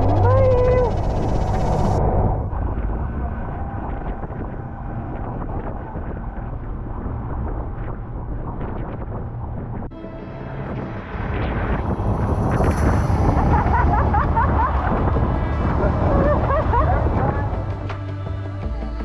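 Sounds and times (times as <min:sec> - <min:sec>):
wind buffeting microphone: 0:00.0 - 0:09.9, 0:10.6 - 0:18.1.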